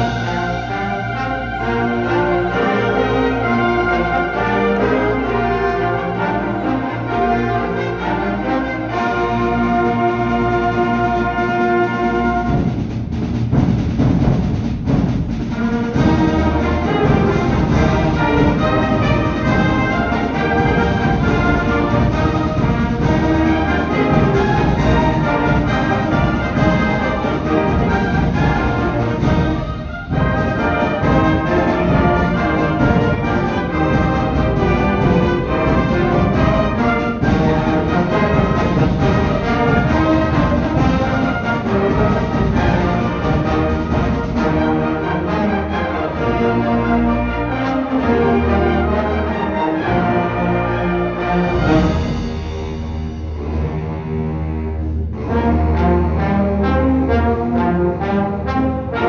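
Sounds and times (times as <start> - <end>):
percussion driving rhythm: 0.0 - 45.6, 51.4 - 53.9
concert band playing: 0.0 - 59.0.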